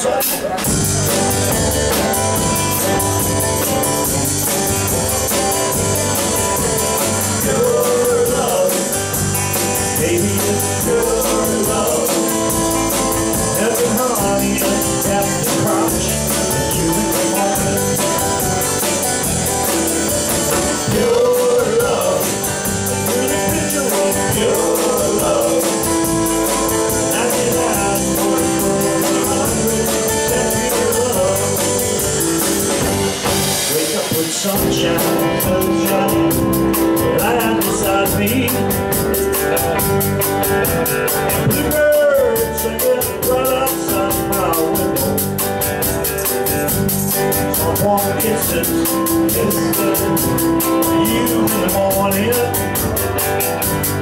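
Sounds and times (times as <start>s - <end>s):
live rock band playing: 0.0s - 54.0s
person singing: 5.3s - 40.0s, 41.1s - 53.8s.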